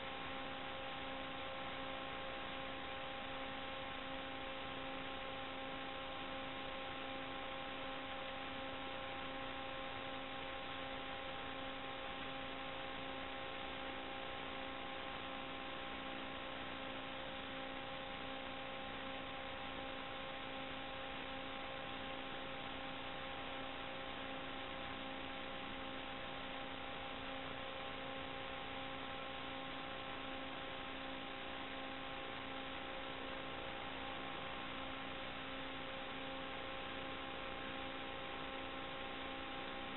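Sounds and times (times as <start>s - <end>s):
electrical hum with hiss: 0.0s - 39.9s.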